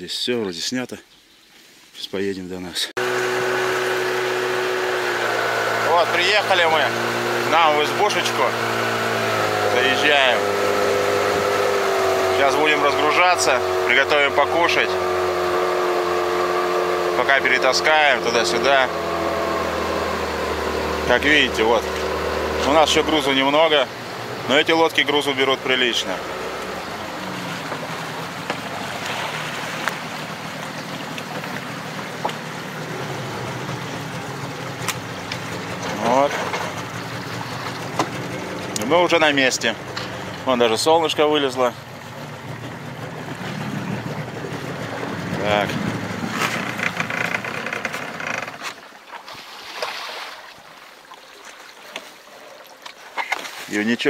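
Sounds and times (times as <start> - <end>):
wind: 0.0 - 54.0
rushing water: 2.9 - 54.0
boat motor running: 3.0 - 48.9.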